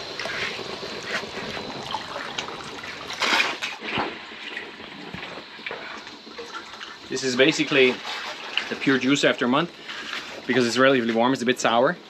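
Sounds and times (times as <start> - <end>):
liquid trickling into a jug: 0.0 - 10.6.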